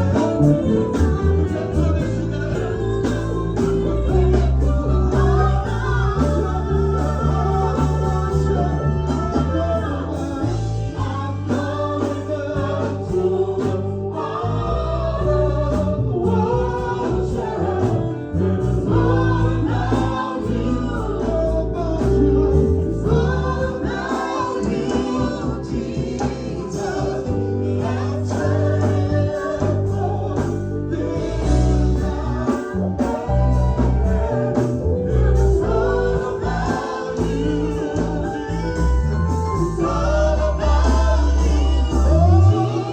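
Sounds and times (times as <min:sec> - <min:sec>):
choir singing: 0:00.0 - 0:42.9
instrumental backing with bass: 0:00.0 - 0:42.9.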